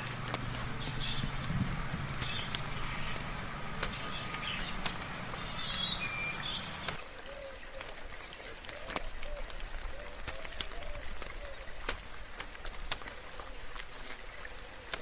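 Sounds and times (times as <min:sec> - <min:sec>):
birds chirping: 0:00.0 - 0:12.7
light rain hissing: 0:00.0 - 0:15.0
water drips ticking: 0:00.0 - 0:15.0.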